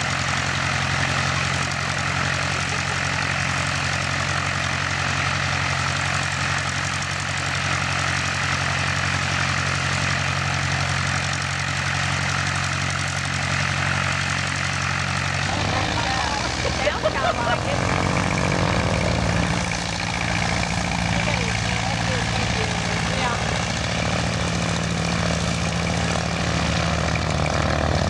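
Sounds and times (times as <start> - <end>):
airplane engine and propeller drone: 0.0 - 28.0.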